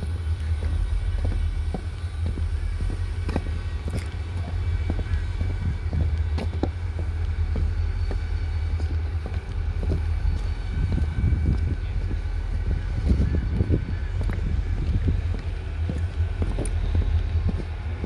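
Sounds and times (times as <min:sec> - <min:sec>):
diesel locomotive rumble: 0:00.0 - 0:18.0.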